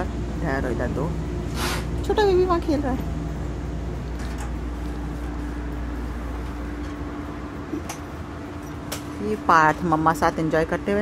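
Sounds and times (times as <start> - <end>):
train car hum and rumble: 0.0 - 11.0.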